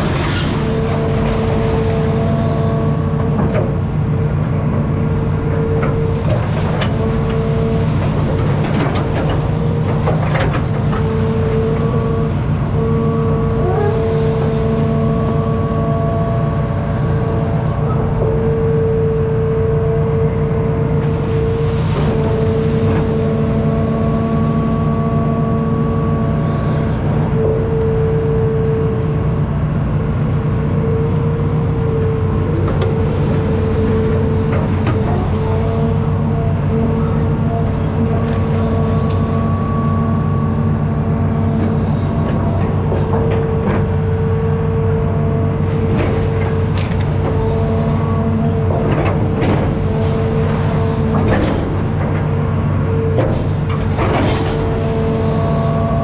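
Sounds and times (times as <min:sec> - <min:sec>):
excavator diesel drone: 0:00.0 - 0:56.0.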